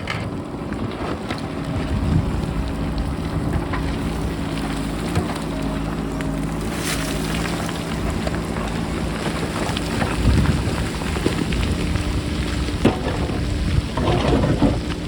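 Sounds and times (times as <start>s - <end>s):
wind buffeting microphone: 0.0s - 6.8s, 7.4s - 15.0s
diesel engine running: 0.0s - 15.0s
loose rocks clattering: 0.0s - 15.0s.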